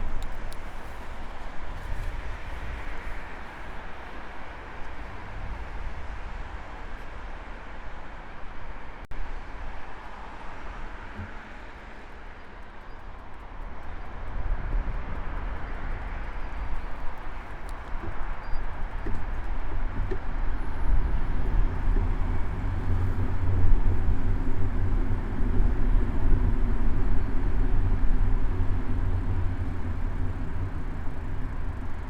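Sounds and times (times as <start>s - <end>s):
road noise hiss: 0.0s - 32.0s
wind rumble on microphone: 0.0s - 32.0s.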